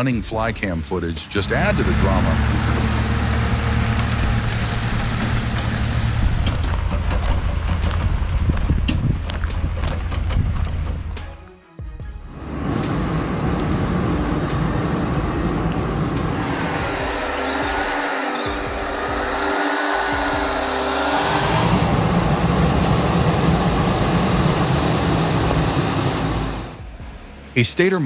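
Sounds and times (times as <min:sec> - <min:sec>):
heavy vehicle engine drone: 0:01.4 - 0:11.1, 0:12.3 - 0:27.6.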